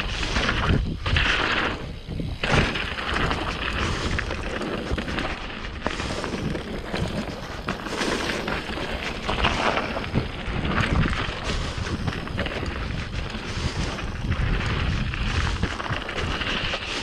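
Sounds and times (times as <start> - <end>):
bike knocks and rattles: 0.0 - 17.0
bike tyres rolling over rocks: 0.0 - 17.0
wind rumbling on microphone: 0.0 - 17.0.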